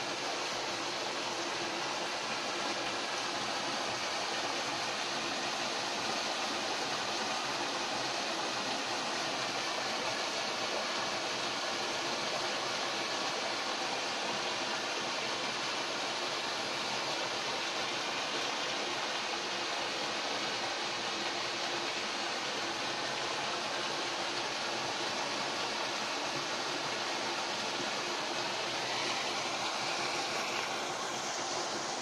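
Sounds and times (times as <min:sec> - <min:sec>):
water cascading into rock pool: 0:00.0 - 0:32.0.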